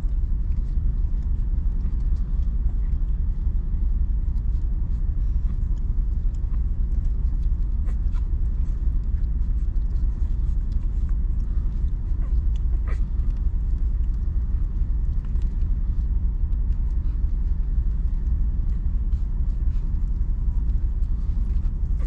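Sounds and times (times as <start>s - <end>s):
dog licking puppies: 0.0s - 22.0s
puppies suckling: 0.0s - 22.0s
steady low rumble: 0.0s - 22.0s.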